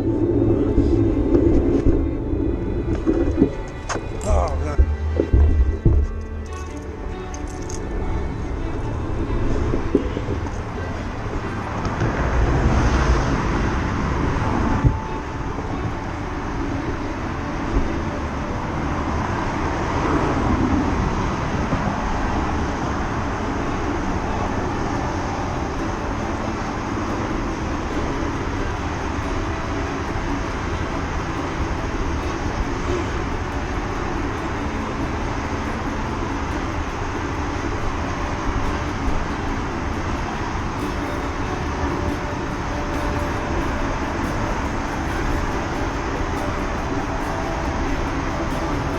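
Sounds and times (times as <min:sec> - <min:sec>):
street traffic noise: 0:00.0 - 0:48.9.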